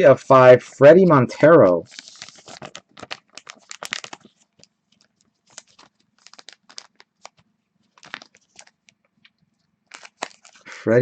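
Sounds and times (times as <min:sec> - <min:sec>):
plastic card sleeve crinkling: 0:01.8 - 0:10.8.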